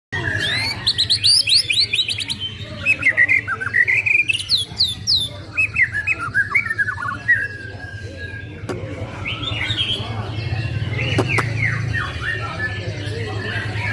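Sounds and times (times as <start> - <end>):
bird singing whistles: 0.2 - 13.9.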